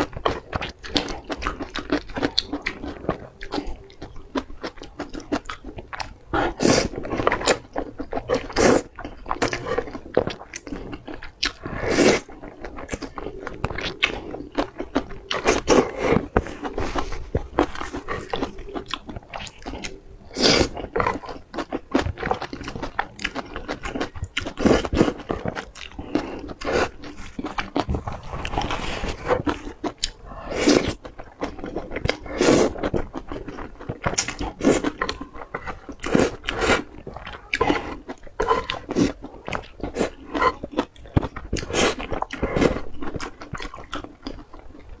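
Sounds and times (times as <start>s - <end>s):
person biting and chewing: 0.0s - 44.8s.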